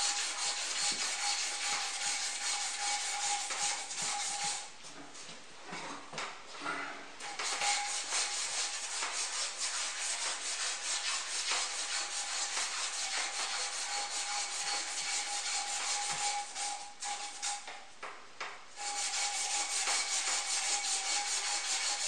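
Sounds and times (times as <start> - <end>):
hand sanding metal rod: 0.0 - 4.7, 7.2 - 17.7, 18.8 - 22.0.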